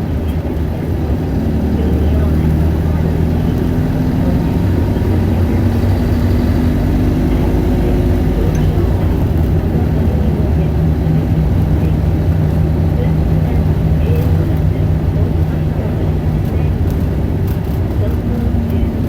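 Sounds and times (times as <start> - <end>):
bus diesel engine drone: 0.0 - 19.0
road noise: 0.0 - 19.0.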